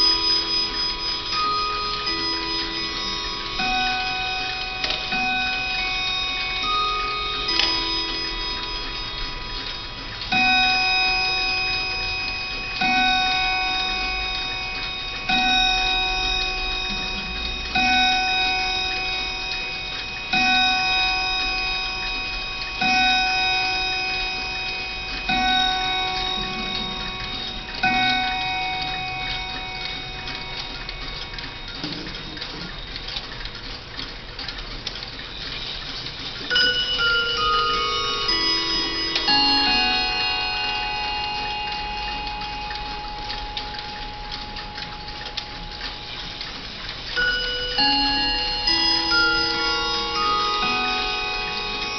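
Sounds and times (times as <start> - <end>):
clock striking: 0.0 - 51.9
clock ticking: 0.0 - 51.9
mantel clock chime tune: 0.0 - 51.9.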